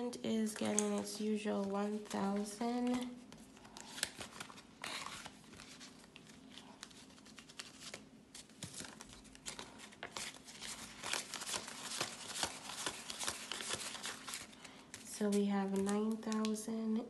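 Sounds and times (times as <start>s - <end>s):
banknotes rustling and flicking: 0.4s - 16.6s.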